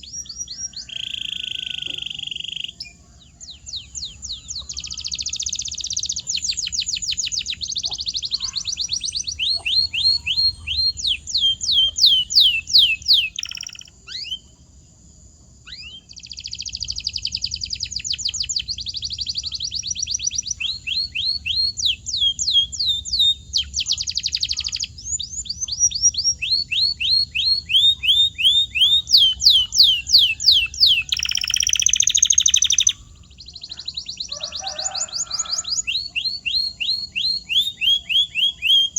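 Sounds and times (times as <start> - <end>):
canary singing trills: 0.0 - 14.7, 15.6 - 38.9.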